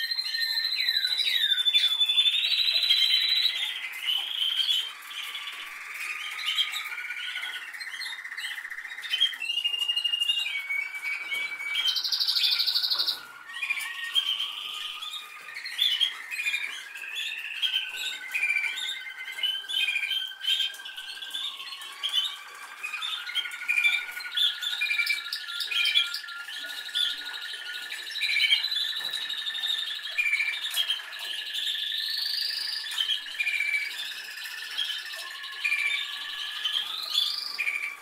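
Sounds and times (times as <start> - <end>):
canary singing with trills: 0.0 - 38.0.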